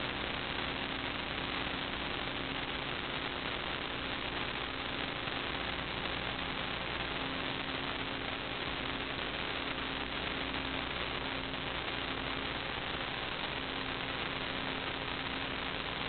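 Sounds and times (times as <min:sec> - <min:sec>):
faint electrical hum: 0:00.0 - 0:16.0
steady hiss: 0:00.0 - 0:16.0.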